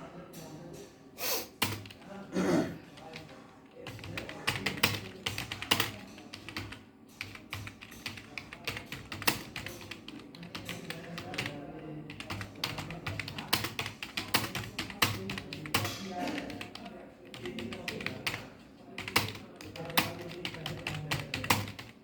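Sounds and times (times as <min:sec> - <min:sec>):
typing on computer keyboard: 0:01.6 - 0:02.1, 0:03.0 - 0:22.0.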